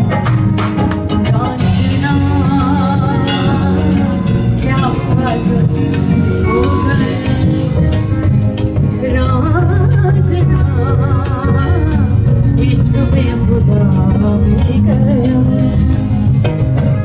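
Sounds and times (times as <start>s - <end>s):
live band with drums: 0.0s - 17.0s
woman singing: 1.2s - 7.6s, 8.8s - 16.2s.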